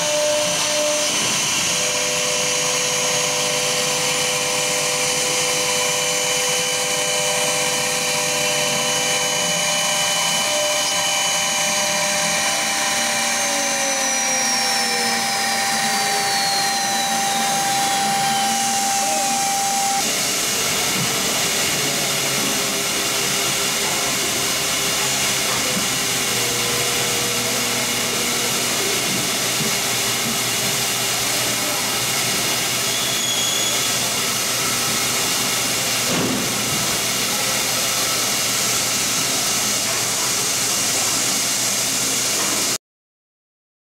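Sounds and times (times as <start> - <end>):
router spindle whine: 0.0 - 42.8
wood cutting noise: 0.0 - 42.8.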